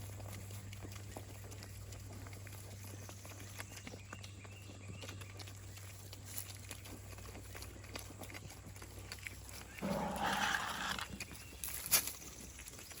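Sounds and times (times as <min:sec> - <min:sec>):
pigs eating and rooting: 0:00.0 - 0:13.0.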